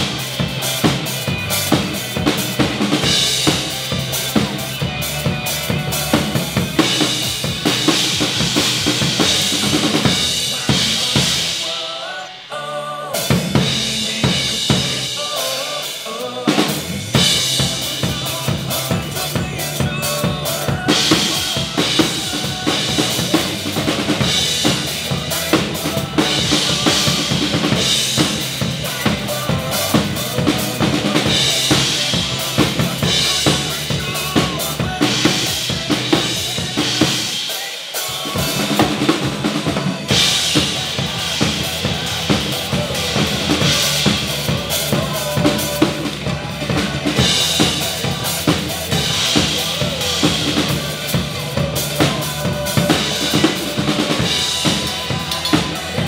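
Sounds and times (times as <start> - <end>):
drum kit playing fast rock beat: 0.0 - 12.5, 13.1 - 56.0
pop-rock backing track: 0.0 - 56.0.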